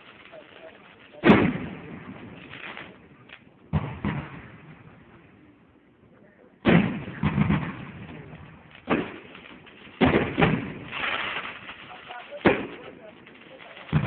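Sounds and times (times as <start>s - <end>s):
fireworks booming: 0.0s - 14.0s
fireworks cracking: 0.0s - 14.0s.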